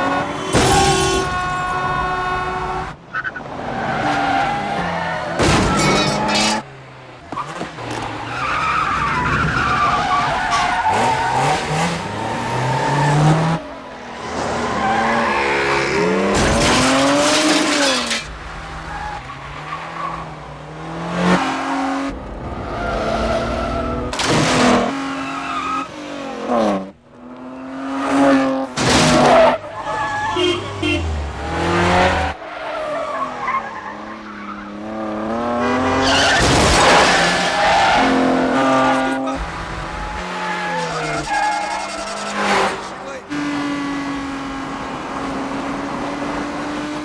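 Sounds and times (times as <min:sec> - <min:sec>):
tyres squealing and skidding: 0:00.0 - 0:06.7, 0:07.3 - 0:20.7, 0:21.3 - 0:26.7, 0:27.4 - 0:43.6
car engines revving: 0:00.0 - 0:47.0
cars passing close: 0:01.2 - 0:47.0.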